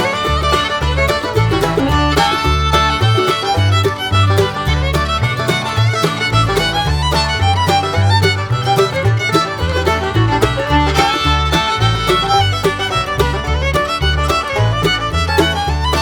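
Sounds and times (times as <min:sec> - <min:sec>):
bass line: 0:00.0 - 0:16.0
violin playing fast melody: 0:00.0 - 0:16.0.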